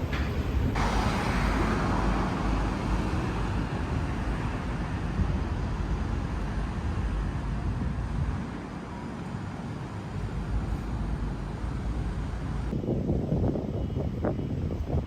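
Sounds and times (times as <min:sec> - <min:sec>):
road vehicle rumble: 0:00.0 - 0:12.8.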